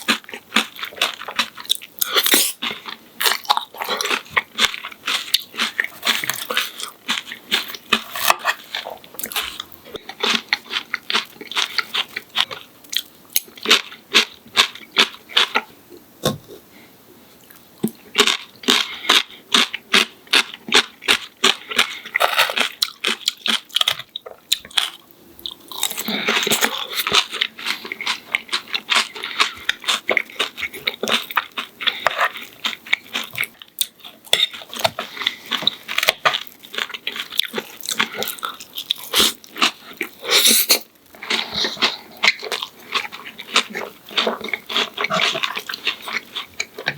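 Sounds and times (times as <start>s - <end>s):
crunching and chewing fried food: 0.0s - 16.6s, 17.4s - 46.9s.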